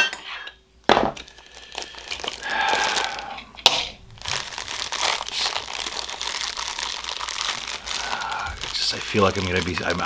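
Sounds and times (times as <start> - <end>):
plastic wrapping crinkling: 0.9 - 10.0.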